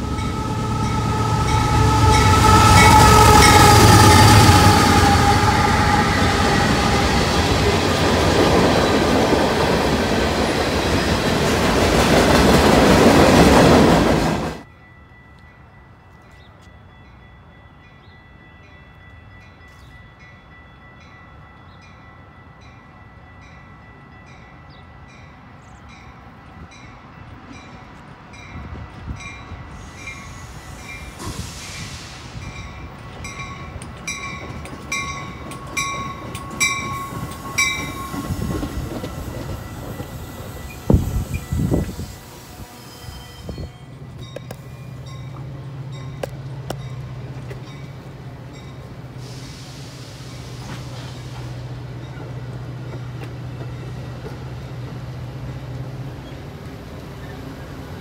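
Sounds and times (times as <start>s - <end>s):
commuter train rumble: 0.0s - 58.0s
freight train rolling on rails: 0.0s - 58.0s.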